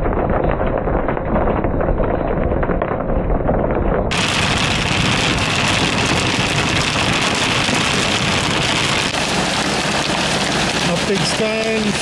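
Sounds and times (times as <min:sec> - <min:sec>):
rain and hail on car: 0:00.0 - 0:12.0.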